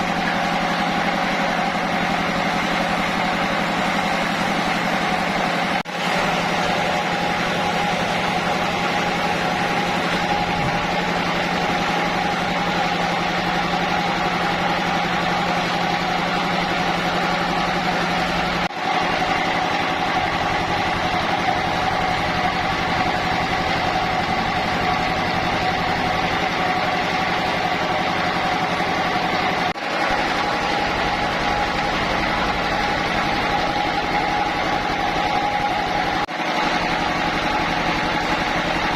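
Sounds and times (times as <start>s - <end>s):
engine drone: 0.0s - 38.9s.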